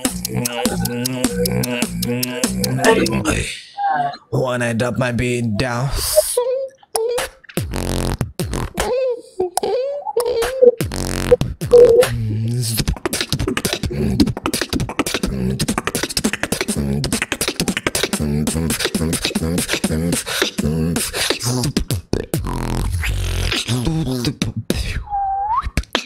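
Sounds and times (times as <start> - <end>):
beatboxing: 0.0 - 4.2, 4.8 - 26.0.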